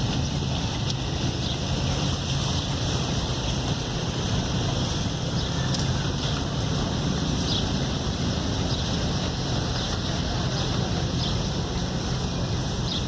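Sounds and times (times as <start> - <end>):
engine rumble: 0.0 - 13.0
wind noise on microphone: 0.0 - 13.0.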